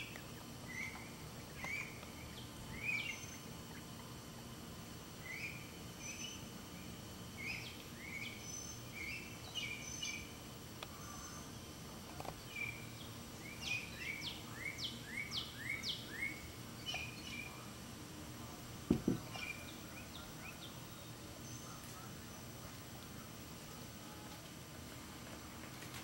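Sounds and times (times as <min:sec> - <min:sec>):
birds calling: 0:00.0 - 0:04.5, 0:05.1 - 0:17.7, 0:18.9 - 0:23.4
outdoor background noise: 0:00.0 - 0:26.0.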